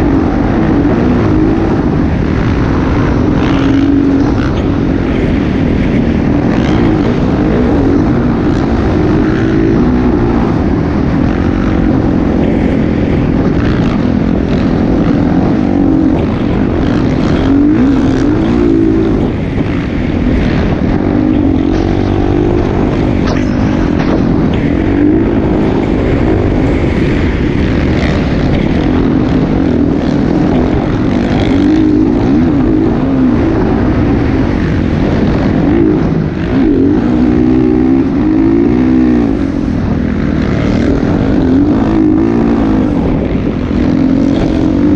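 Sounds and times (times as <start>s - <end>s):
heavy low rumble: 0.0s - 44.9s
motocross bike engine revving: 0.0s - 44.9s.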